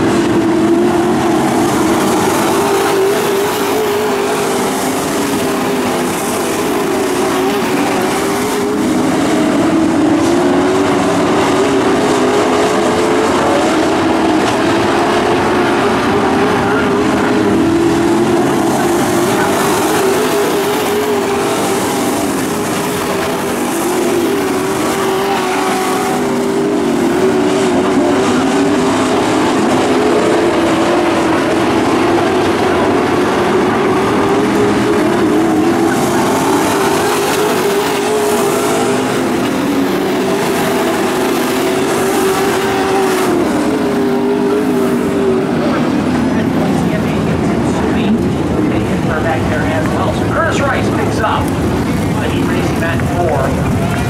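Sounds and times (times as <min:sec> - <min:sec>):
racing truck engines: 0:00.0 - 0:54.0.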